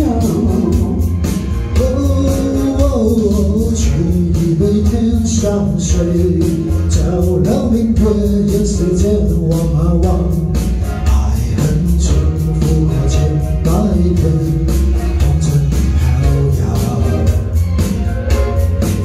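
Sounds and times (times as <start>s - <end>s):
man singing into microphone: 0.0s - 1.2s, 1.8s - 17.4s
karaoke backing track: 0.0s - 19.0s.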